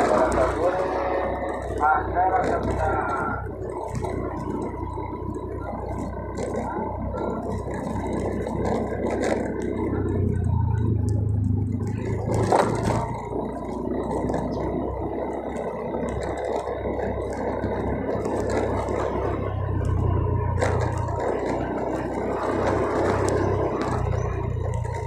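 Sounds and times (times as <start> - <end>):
motorcycle engine humming: 0.0 - 25.0
tyres rumbling on paving: 0.0 - 25.0.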